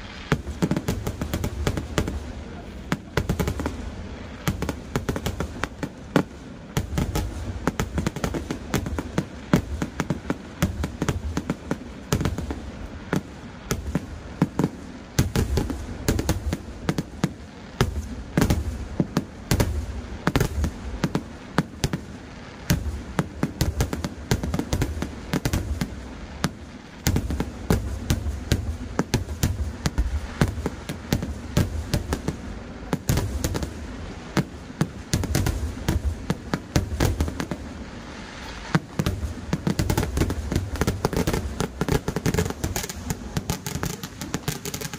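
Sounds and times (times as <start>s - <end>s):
firework bangs: 0.0s - 44.9s.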